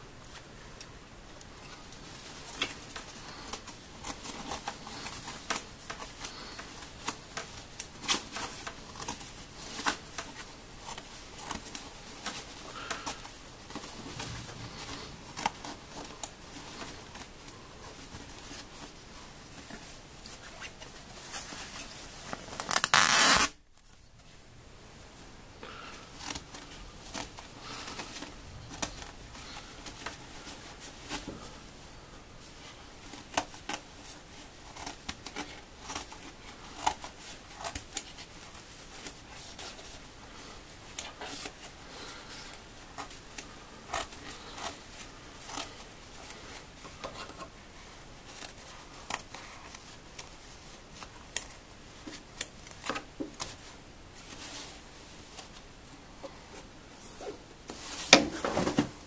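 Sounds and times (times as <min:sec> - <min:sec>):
nylon rustling: 0:01.4 - 0:59.0.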